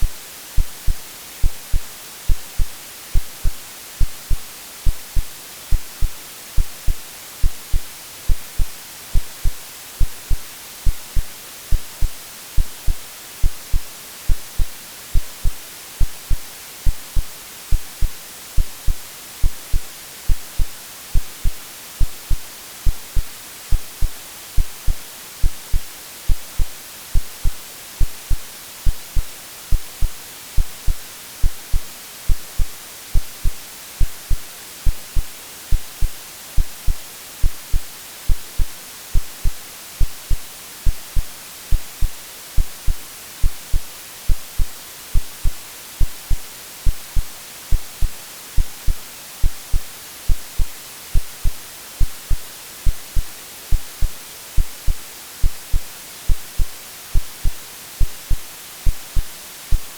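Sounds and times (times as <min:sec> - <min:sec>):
heartbeat thumps: 0:00.0 - 0:59.9
white noise hiss: 0:00.0 - 0:59.9.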